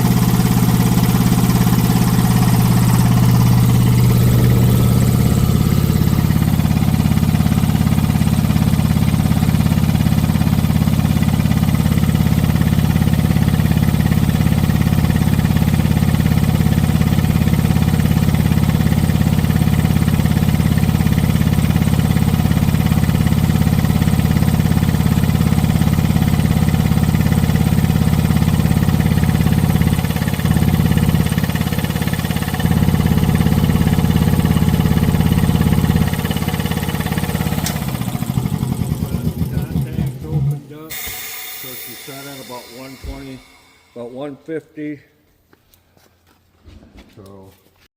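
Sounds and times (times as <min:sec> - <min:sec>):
air compressor running: 0:00.0 - 0:44.4.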